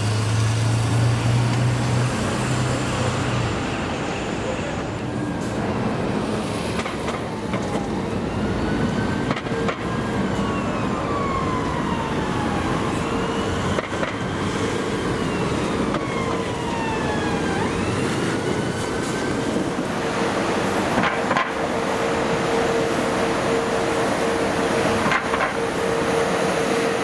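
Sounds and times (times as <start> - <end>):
emergency siren wailing: 1.1 - 27.0.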